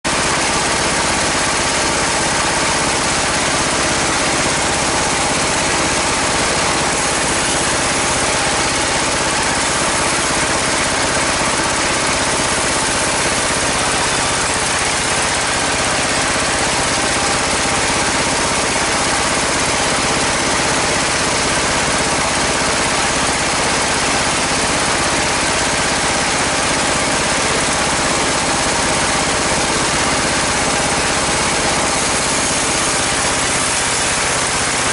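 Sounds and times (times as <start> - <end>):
bandsaw running loudly: 0.1 - 34.9.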